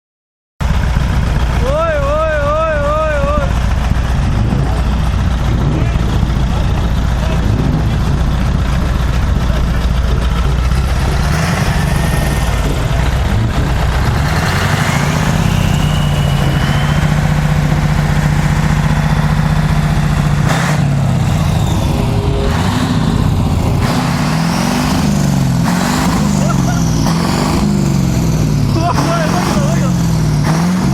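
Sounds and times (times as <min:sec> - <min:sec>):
diesel truck engine revving: 0:00.6 - 0:30.9.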